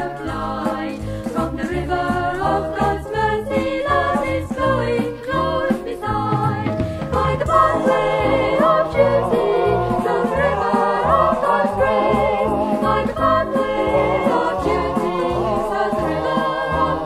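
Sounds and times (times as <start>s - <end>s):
instrumental accompaniment: 0.0s - 17.0s
vocal group singing in harmony: 0.0s - 17.0s
pulsing bass line: 1.4s - 17.0s.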